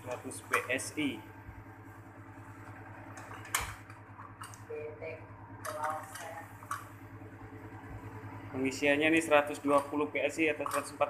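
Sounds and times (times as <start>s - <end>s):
air conditioner compressor humming: 0.0s - 11.0s.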